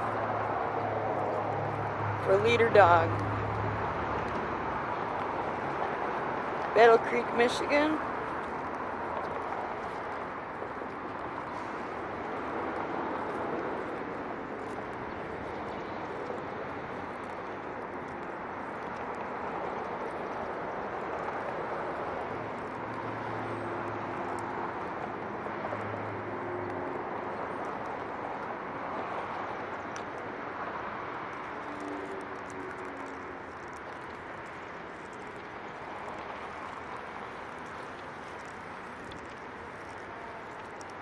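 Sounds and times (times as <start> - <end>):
low vehicle engine hum: 0.0 - 41.0
traffic noise: 0.0 - 41.0.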